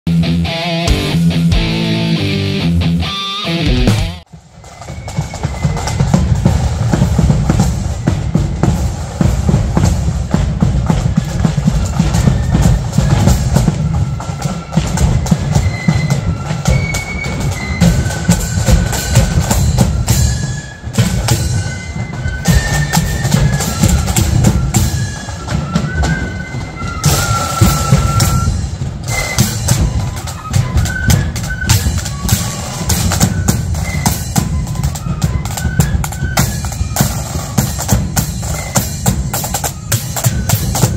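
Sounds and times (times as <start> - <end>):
high flute melody: 3.0 - 40.9
rattling side drums: 3.8 - 40.9.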